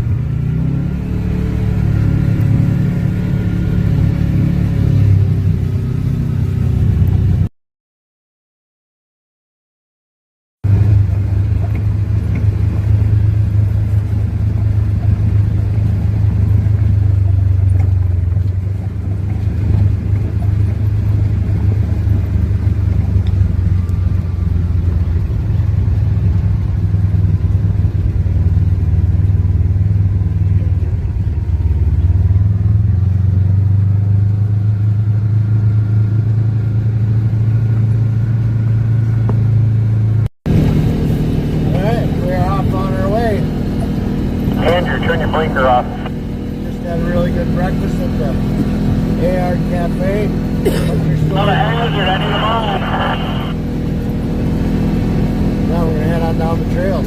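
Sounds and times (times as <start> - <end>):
vehicle engine droning: 0.0 - 7.5, 10.6 - 57.0.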